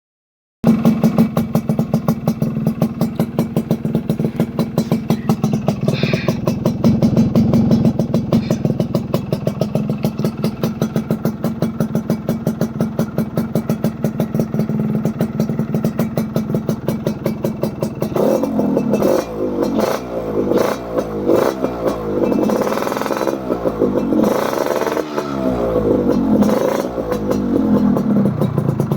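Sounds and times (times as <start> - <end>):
two-stroke engine idling and revving: 0.6 - 28.9.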